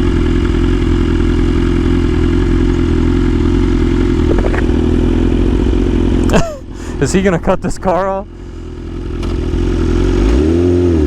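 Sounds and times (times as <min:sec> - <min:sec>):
motorcycle engine at steady revs: 0:00.0 - 0:11.0.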